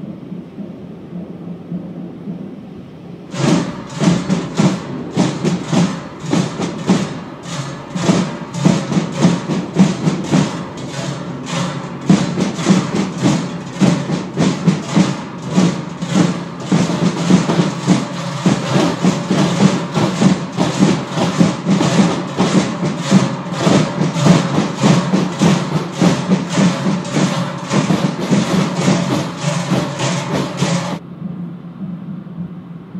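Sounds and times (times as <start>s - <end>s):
large cowbells clanging: 3.3s - 31.0s.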